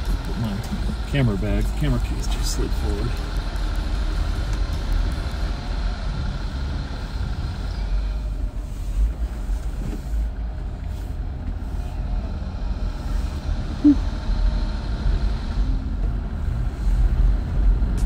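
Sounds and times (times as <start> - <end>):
engine and tyre rumble: 0.0 - 18.0.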